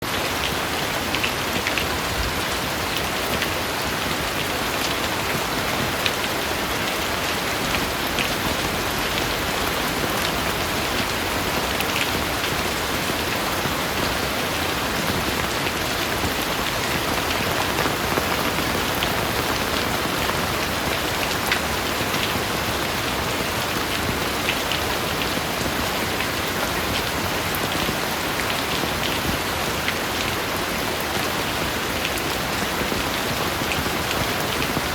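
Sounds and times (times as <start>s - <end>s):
heavy rain on hard surface: 0.0s - 34.9s.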